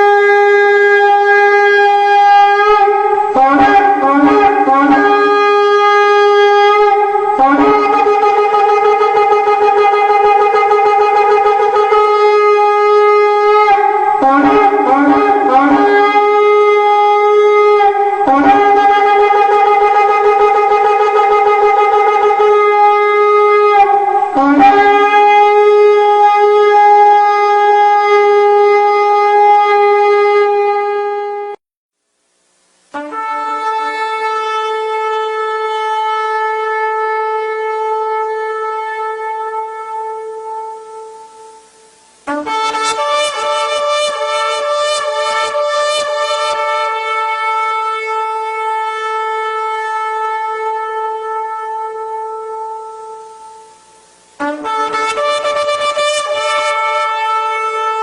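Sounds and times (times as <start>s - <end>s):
ram's horn blasts: 0.0s - 31.6s, 32.8s - 58.0s.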